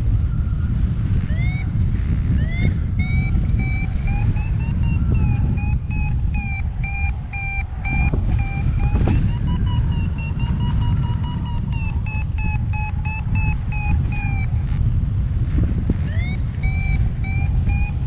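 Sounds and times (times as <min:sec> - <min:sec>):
wind noise on microphone: 0:00.0 - 0:18.0
variometer short beeps: 0:02.3 - 0:14.8, 0:16.0 - 0:18.0.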